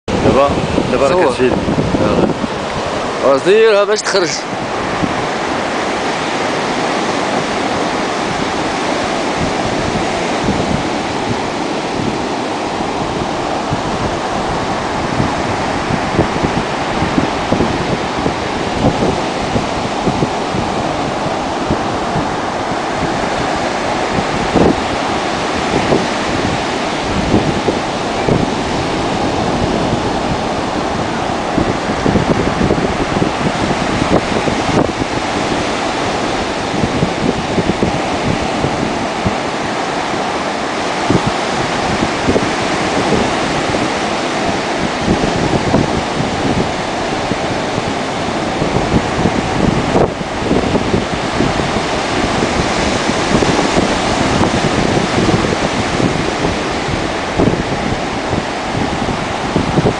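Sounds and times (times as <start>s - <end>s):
ocean surf breaking on beach: 0.1s - 59.9s
wind buffeting microphone: 0.1s - 59.9s.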